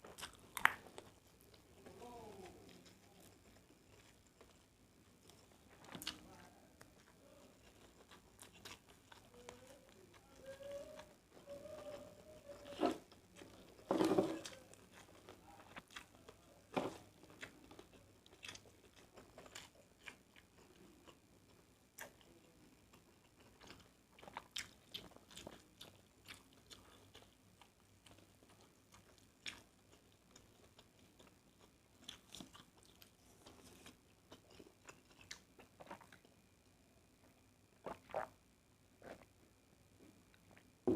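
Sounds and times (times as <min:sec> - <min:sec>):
person chewing: 0:00.0 - 0:36.4, 0:37.8 - 0:38.4, 0:39.0 - 0:39.3.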